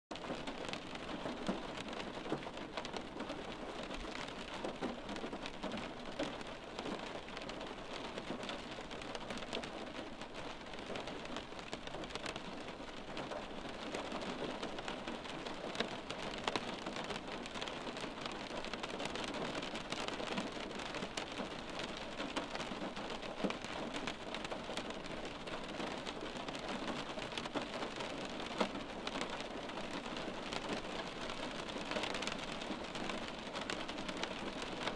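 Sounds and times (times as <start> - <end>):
raindrops ticking: 0.1 - 34.9
steady rain hiss: 0.2 - 34.9.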